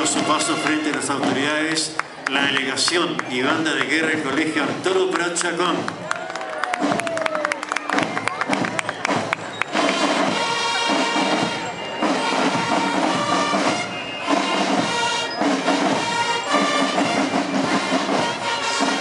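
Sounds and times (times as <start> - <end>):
bugles holding notes: 0.0 - 6.0, 7.6 - 19.0
snare drums: 0.0 - 19.0.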